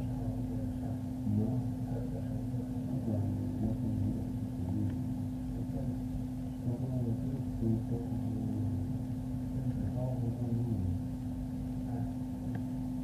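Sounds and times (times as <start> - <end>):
muffled background talk: 0.0 - 11.1, 11.8 - 12.3
low hum and rumble: 0.0 - 13.0.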